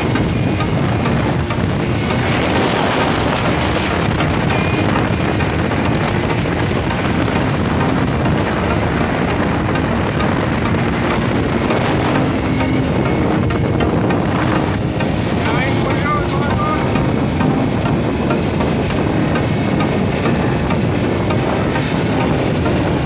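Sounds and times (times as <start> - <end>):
speedboat engine and spray: 0.0 - 23.0
wind buffeting microphone: 0.0 - 23.0.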